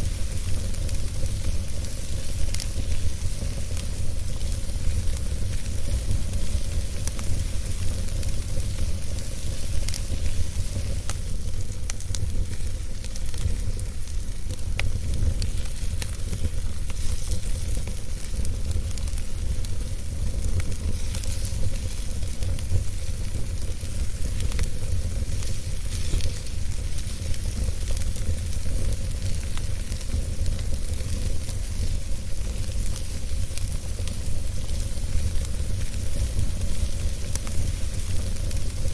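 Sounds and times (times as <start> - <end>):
fire crackles and pops: 0.0 - 38.9
fire rumble and hiss: 0.0 - 38.9.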